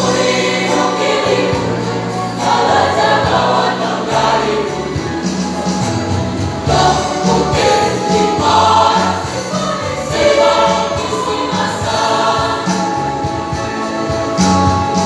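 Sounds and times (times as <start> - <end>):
choir singing in parts: 0.0 - 15.0
instrumental accompaniment with bass line: 0.0 - 15.0.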